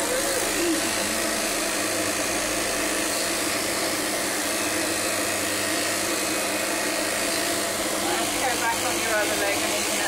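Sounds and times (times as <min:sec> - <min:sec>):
electric clippers buzzing: 0:00.0 - 0:10.0.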